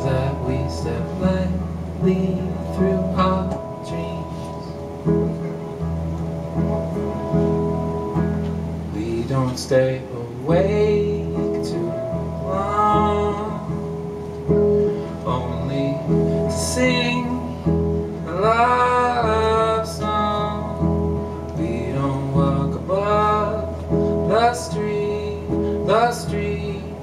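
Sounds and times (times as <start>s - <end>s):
electric guitar with bending notes: 0.0s - 27.0s.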